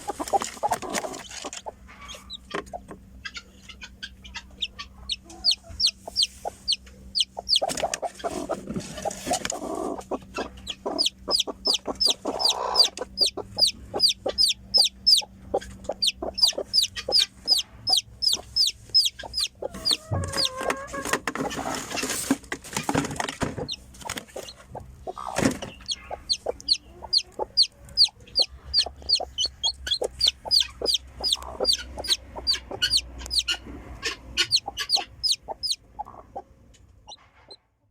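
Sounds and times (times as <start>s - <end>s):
chick peeping: 0.0s - 36.5s.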